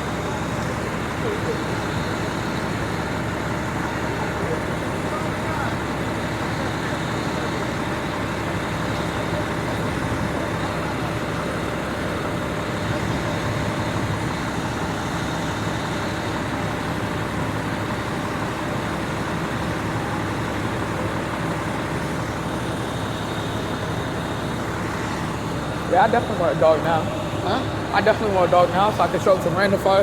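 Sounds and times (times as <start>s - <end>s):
fire engines droning: 0.0s - 30.0s.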